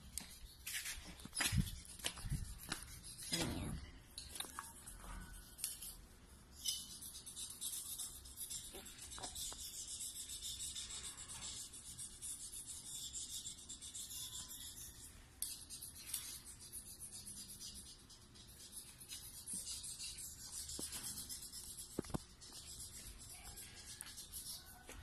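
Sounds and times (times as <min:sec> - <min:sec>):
knife scraping ceramic tiles: 0:00.1 - 0:25.0.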